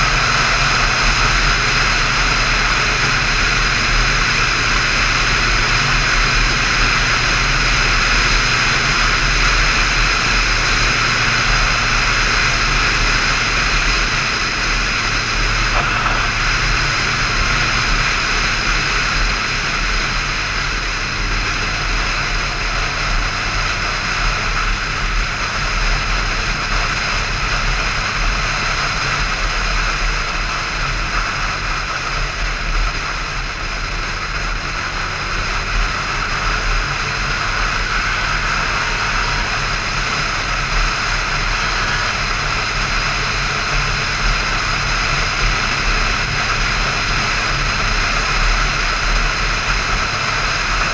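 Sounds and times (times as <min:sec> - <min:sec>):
motorcycle engine droning: 0:00.0 - 0:50.9.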